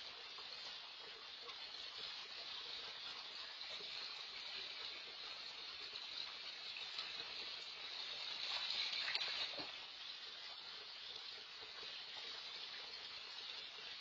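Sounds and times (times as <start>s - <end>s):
water running and sloshing: 0.0s - 14.0s.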